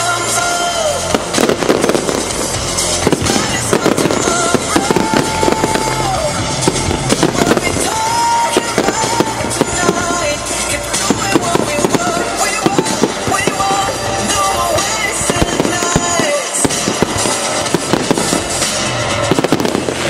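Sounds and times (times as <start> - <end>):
fireworks bangs and crackling: 0.0 - 20.0
music with long held notes: 0.0 - 20.0.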